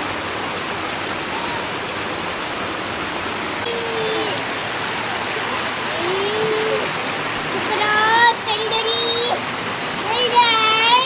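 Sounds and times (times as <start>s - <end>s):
stream babbling: 0.0s - 11.0s.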